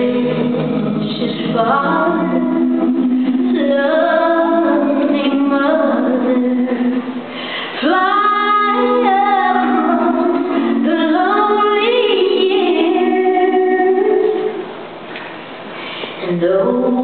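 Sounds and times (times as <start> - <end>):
woman singing a hymn: 0.0 - 14.6, 16.2 - 17.0.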